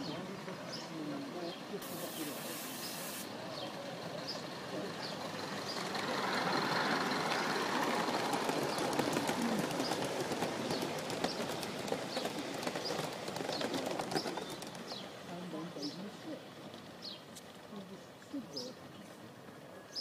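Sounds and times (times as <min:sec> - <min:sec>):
birds chirping: 0:00.0 - 0:20.0
model steam train rushing past: 0:00.0 - 0:20.0
wheels clicking on track: 0:00.0 - 0:20.0.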